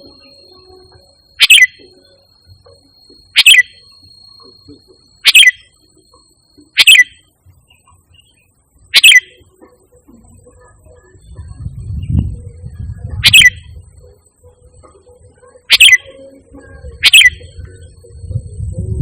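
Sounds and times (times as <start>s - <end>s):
bird calling: 0.0s - 13.9s, 14.9s - 18.0s
faint steady high tone: 0.0s - 19.0s.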